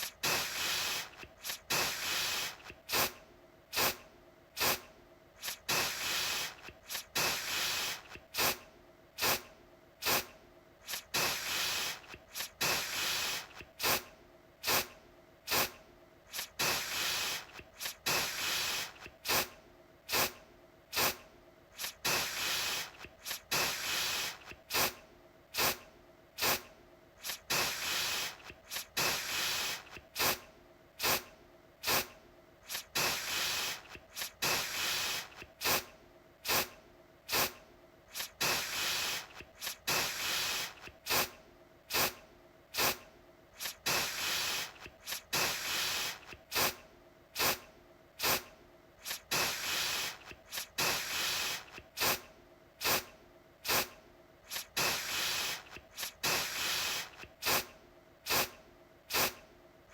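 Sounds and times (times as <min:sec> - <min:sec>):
aerosol can spraying: 0:00.0 - 0:04.0, 0:04.6 - 0:08.6, 0:09.2 - 0:14.9, 0:15.5 - 0:21.2, 0:21.8 - 0:25.8, 0:26.4 - 0:30.4, 0:31.0 - 0:43.0, 0:43.6 - 0:46.8, 0:47.4 - 0:47.6, 0:48.2 - 0:59.4.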